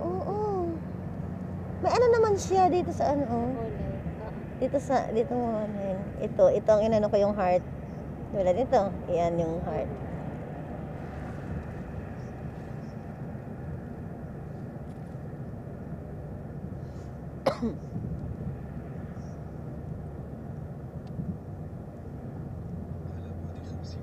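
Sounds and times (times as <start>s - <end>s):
car engine and tyres rumble: 0.0s - 24.0s.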